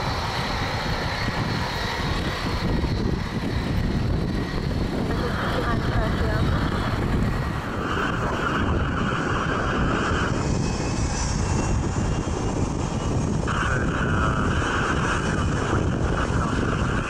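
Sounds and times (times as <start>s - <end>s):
jet airliner engines taxiing: 0.0s - 17.0s
jet engine whine: 0.0s - 17.0s.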